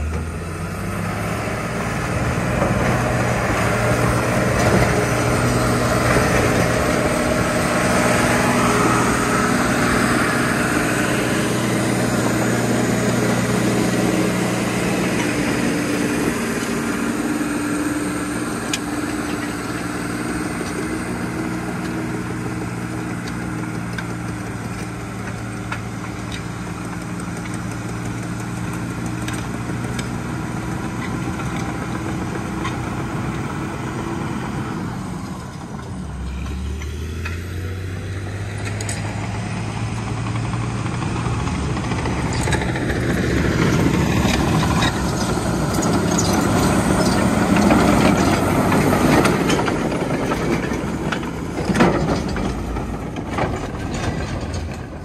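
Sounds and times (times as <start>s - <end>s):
bulldozer diesel engine running: 0.0s - 55.0s
dozer pushing dirt: 0.0s - 55.0s.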